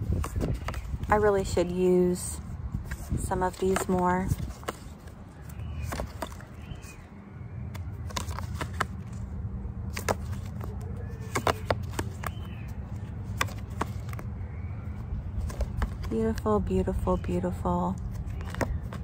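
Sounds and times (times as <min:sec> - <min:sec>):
cards being shuffled and fanned: 0:00.0 - 0:07.0, 0:07.6 - 0:19.0.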